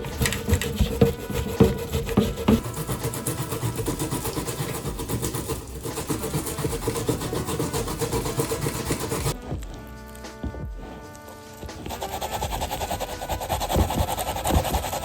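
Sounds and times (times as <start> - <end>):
grater rasping: 0.0 - 9.4, 11.6 - 15.0.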